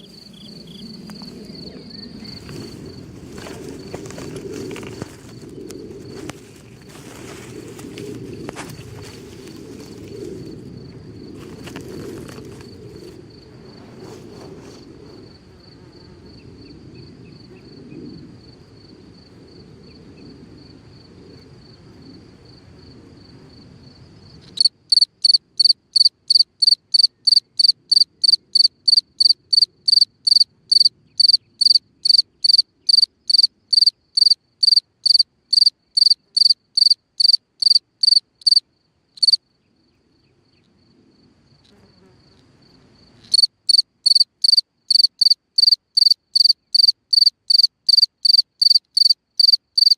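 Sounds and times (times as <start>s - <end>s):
cricket chirping: 0.0s - 49.9s.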